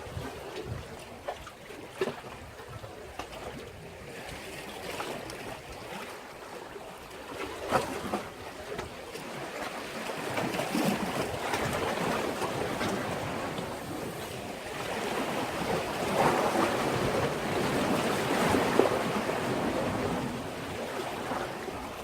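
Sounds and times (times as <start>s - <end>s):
waves washing against breakwater: 0.0s - 22.0s.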